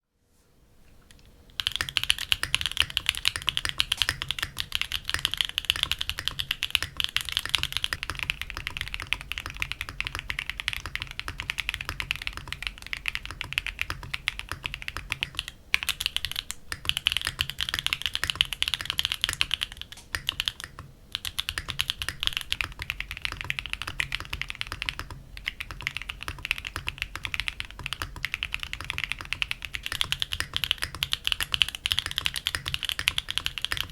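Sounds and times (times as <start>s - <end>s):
mechanical keyboard typing: 1.5s - 33.9s.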